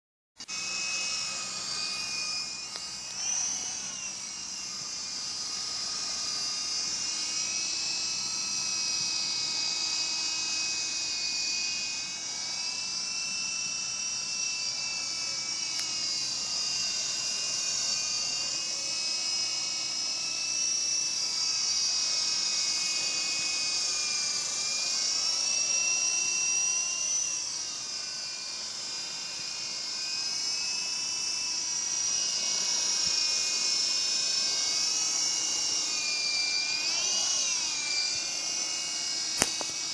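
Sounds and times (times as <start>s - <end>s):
toy helicopter motor whine: 0.4s - 39.9s.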